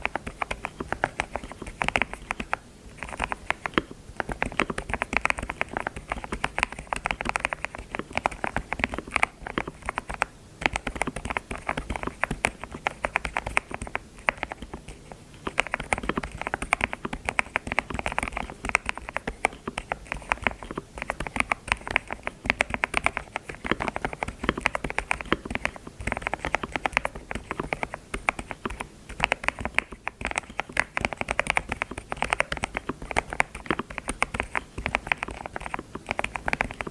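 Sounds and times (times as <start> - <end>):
keyboard typing clicks: 0.0 - 36.9.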